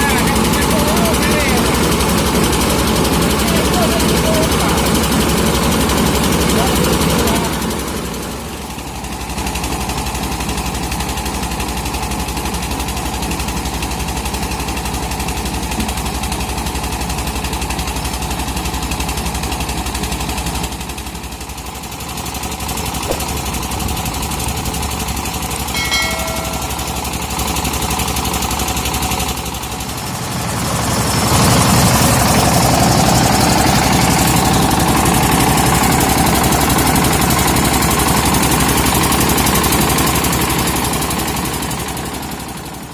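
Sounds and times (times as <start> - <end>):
rice milling machine chugging: 0.0 - 42.9.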